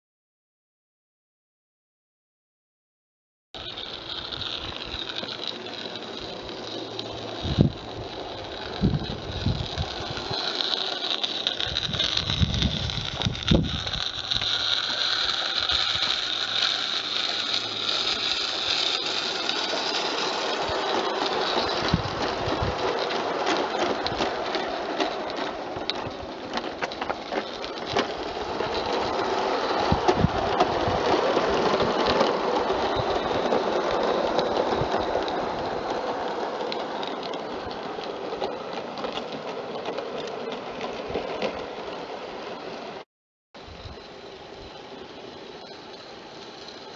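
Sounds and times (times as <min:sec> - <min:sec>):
steam hissing: 0:03.6 - 0:39.6, 0:43.6 - 0:46.9
wheels clicking on rails: 0:03.6 - 0:43.0, 0:43.6 - 0:46.9.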